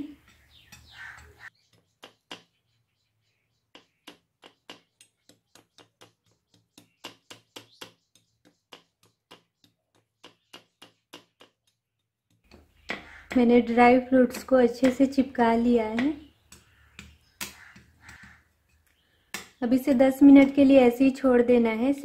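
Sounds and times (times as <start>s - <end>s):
spatula tapping in steel tray: 0.2s - 2.6s, 3.7s - 20.6s.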